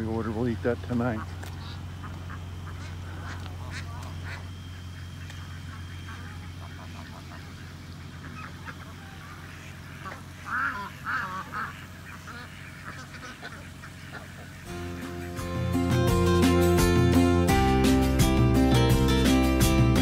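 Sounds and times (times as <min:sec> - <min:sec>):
ducks quacking: 0:00.0 - 0:20.0
steady low hum: 0:00.0 - 0:20.0.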